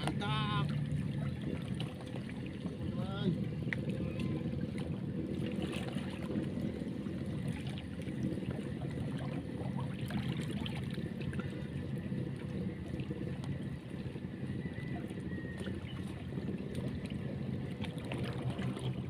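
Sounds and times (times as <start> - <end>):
seashore water rumble: 0.0 - 19.0.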